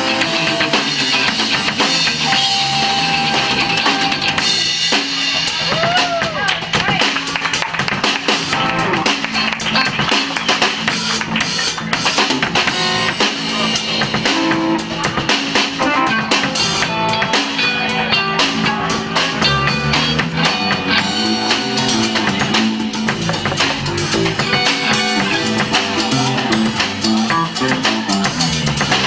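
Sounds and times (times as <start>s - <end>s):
drum kit beat: 0.0s - 29.0s
electric guitars: 0.0s - 29.0s.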